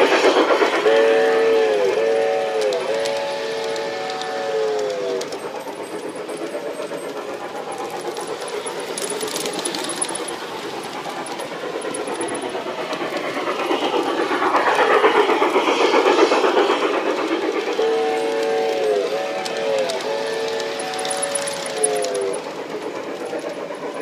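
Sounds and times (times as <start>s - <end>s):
model train motor hum: 0.0s - 24.0s
model train wheels clattering: 0.0s - 24.0s.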